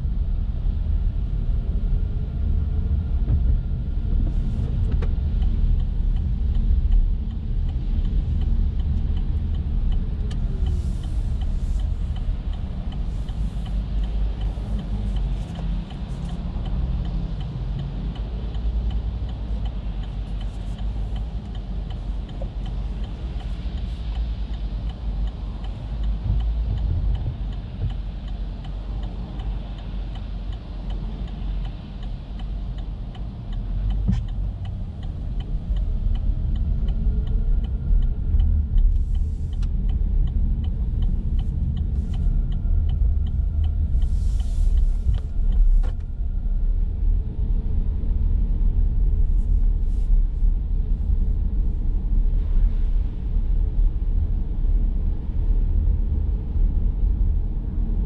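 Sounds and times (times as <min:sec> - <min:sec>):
turn signal ticking: 0:00.1 - 0:58.0.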